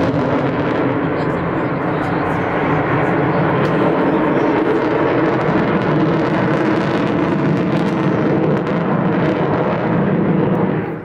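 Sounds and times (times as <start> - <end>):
loud jet engine roar: 0.0 - 11.0.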